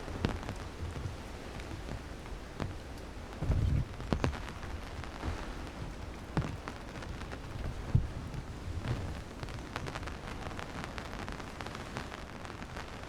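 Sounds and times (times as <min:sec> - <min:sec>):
rain falling: 0:00.0 - 0:13.0
raindrops ticking on surfaces: 0:00.0 - 0:13.0.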